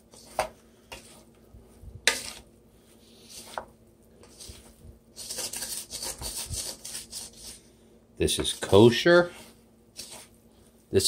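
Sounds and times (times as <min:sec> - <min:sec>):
spatulas scraping a pan: 0:00.0 - 0:01.3, 0:02.0 - 0:07.7, 0:08.4 - 0:10.4.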